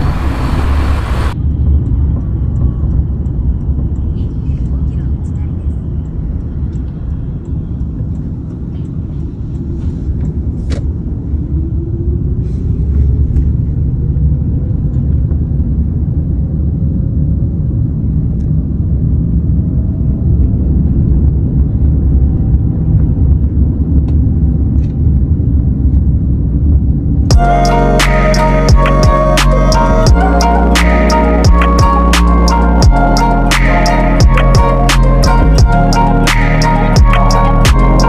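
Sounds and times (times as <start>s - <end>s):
vehicle engine rumble: 0.0s - 38.0s.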